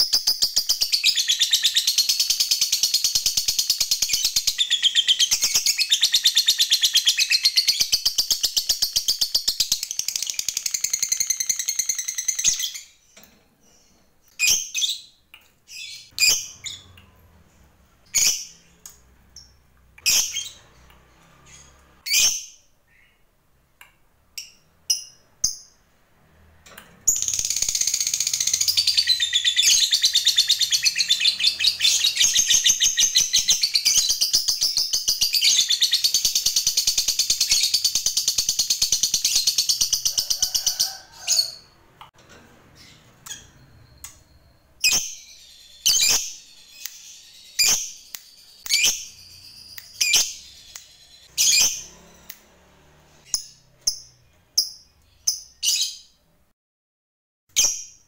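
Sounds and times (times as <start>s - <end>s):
bird chirping: 0.0s - 23.6s, 27.0s - 41.8s, 42.7s - 56.3s.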